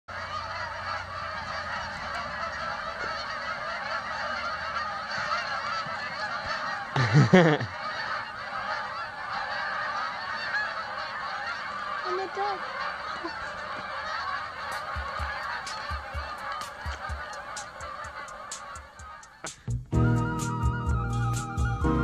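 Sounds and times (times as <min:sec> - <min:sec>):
flock of geese honking: 0:00.1 - 0:22.0.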